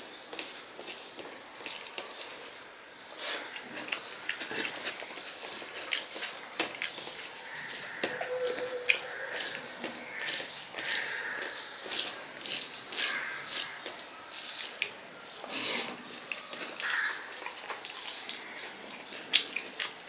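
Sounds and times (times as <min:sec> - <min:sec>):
fingers squishing rice: 0:00.0 - 0:20.0
wet chewing and lip smacks: 0:00.3 - 0:15.5, 0:16.1 - 0:20.0.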